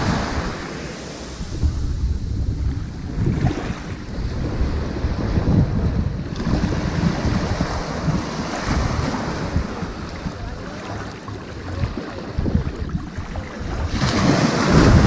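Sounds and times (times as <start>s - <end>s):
ocean surf on sandy beach: 0.0s - 15.0s
wind buffeting microphone: 0.0s - 15.0s.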